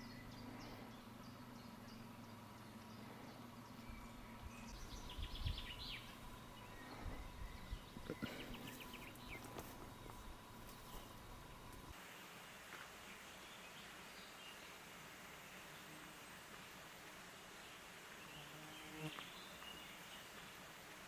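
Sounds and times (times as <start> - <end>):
songbirds chirping: 0.0 - 12.0, 12.9 - 20.8
faint steady hiss: 0.0 - 21.0.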